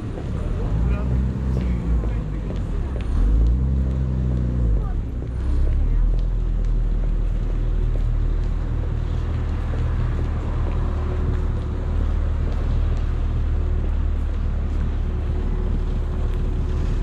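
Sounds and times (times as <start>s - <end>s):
general street noise: 0.0s - 17.0s
road traffic rumble: 0.0s - 17.0s.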